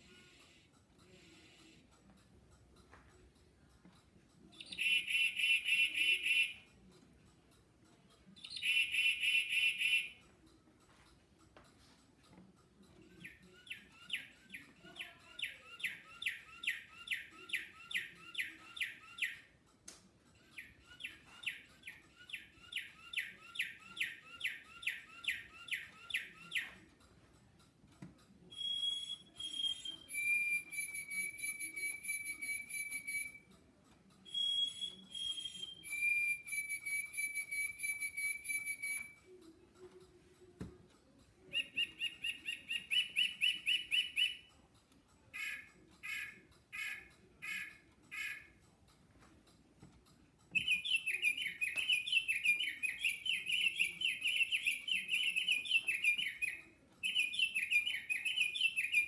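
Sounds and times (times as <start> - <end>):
recorded bird songs from speaker: 0.0 - 11.0, 11.8 - 49.5, 50.2 - 59.0.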